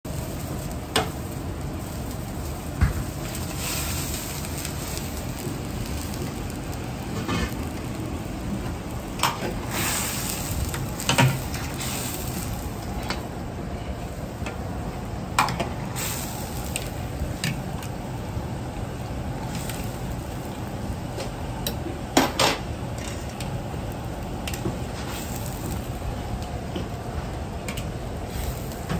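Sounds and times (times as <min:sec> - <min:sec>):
food sizzling: 0:00.0 - 0:28.9
wok burner roaring: 0:00.0 - 0:28.9.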